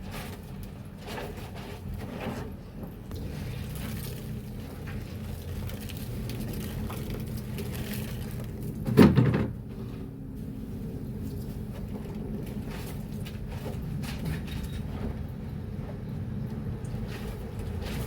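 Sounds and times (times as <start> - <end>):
sheets washed in soapy water: 0.0 - 8.9, 9.6 - 18.0.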